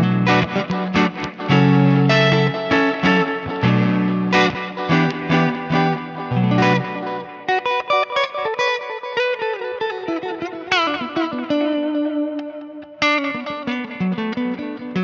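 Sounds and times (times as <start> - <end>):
electric guitar playing: 0.0 - 15.0.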